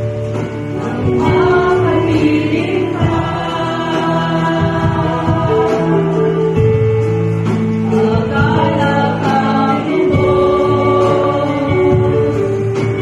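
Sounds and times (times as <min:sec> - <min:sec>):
group singing worship song: 0:00.0 - 0:13.0
instrumental accompaniment: 0:00.0 - 0:13.0
woman singing into microphone: 0:00.8 - 0:06.8, 0:07.9 - 0:13.0.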